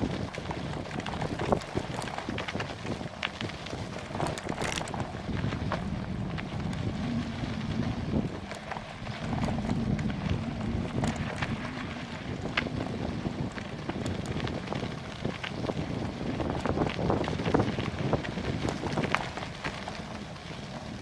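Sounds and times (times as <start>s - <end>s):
bicycle clicks and rattles: 0.0s - 21.0s
wind buffeting microphone: 0.0s - 21.0s.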